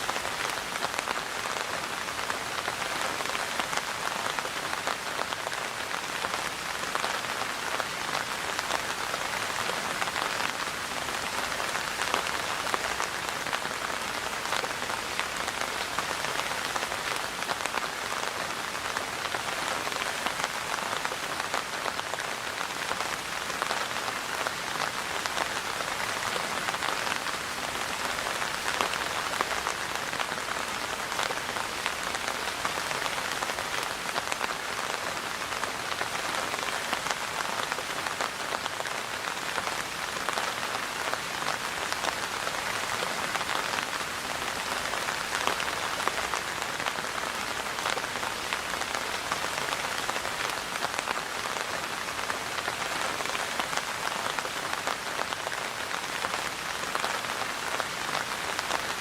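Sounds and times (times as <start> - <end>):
rain on a hard surface: 0.0 - 59.0.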